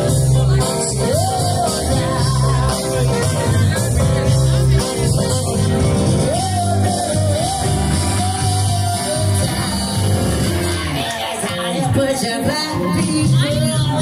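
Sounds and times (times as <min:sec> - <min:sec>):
live soul band playing: 0:00.0 - 0:14.0
person singing: 0:00.0 - 0:14.0.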